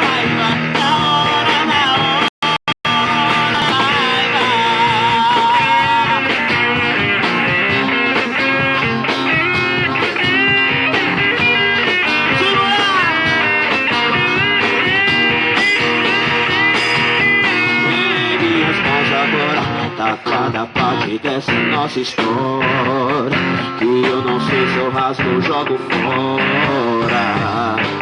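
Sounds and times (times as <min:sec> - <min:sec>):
live band instrumental: 0:03.4 - 0:28.0.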